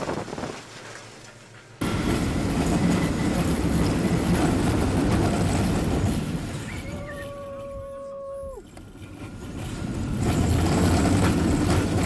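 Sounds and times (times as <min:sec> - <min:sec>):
rush of wind: 0:00.0 - 0:00.7, 0:01.8 - 0:12.0
roller coaster rumbling on track: 0:01.4 - 0:12.0.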